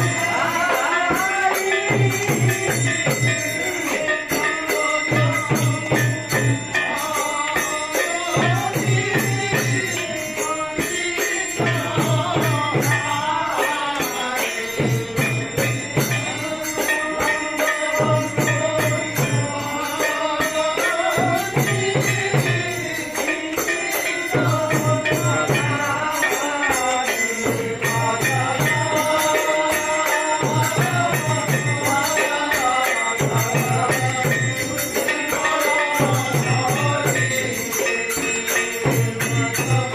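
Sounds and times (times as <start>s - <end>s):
jingling bells: 0.0s - 39.9s.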